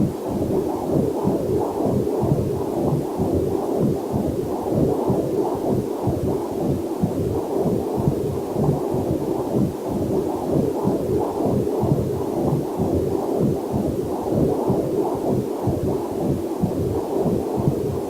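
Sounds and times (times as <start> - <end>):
fetal heartbeat whooshing pulse: 0.0 - 18.0.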